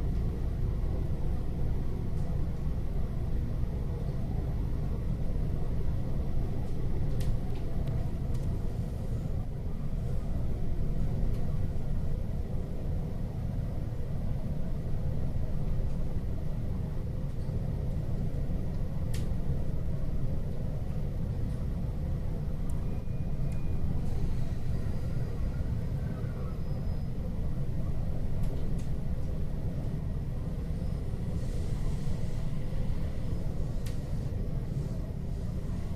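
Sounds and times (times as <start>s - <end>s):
train carriage rumble: 0.0s - 35.9s.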